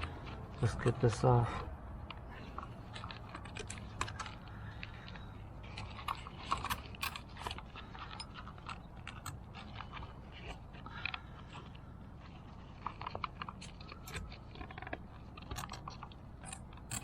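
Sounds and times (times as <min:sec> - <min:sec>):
parts clicking and scraping by hand: 0:00.0 - 0:17.0.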